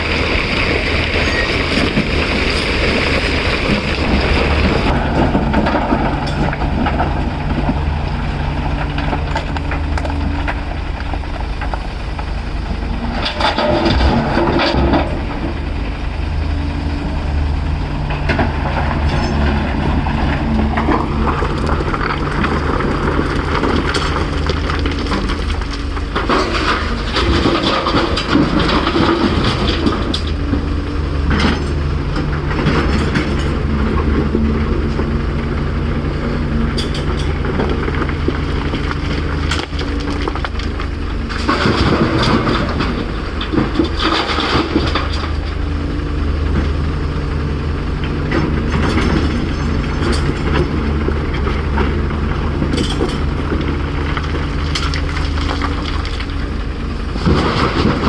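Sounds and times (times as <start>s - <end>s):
clanks and scraping of rock: 0.0s - 46.8s, 47.4s - 58.0s
excavator diesel engine: 0.0s - 58.0s.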